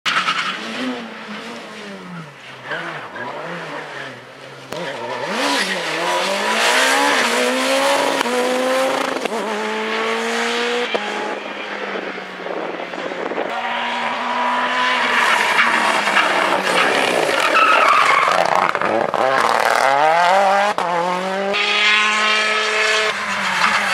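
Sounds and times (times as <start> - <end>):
rally car engine revving: 0.1 - 23.9.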